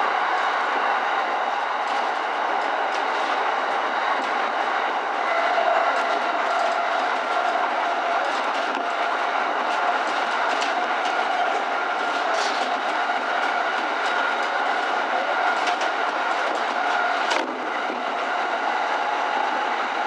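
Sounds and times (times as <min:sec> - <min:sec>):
electric train running on track: 0:00.0 - 0:20.0.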